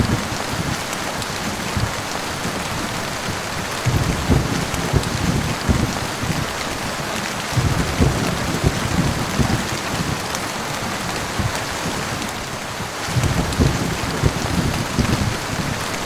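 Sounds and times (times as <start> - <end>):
heavy rain falling: 0.0 - 16.0
low rumbles of thunder: 0.0 - 16.0.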